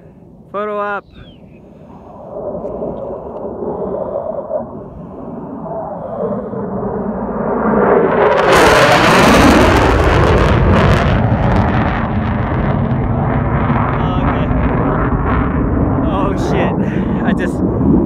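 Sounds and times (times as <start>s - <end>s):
fighter jet roar passing overhead: 1.5s - 18.0s.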